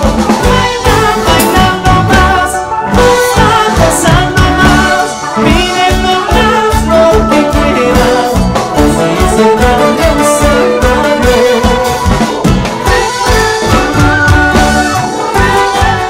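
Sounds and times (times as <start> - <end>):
electric bass: 0.0 - 16.0
live band playing: 0.0 - 16.0
man singing: 0.0 - 16.0
saxophones: 0.0 - 16.0.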